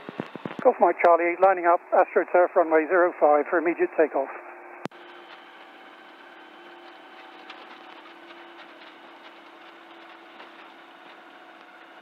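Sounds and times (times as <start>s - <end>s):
aircraft engine humming: 0.0s - 12.0s.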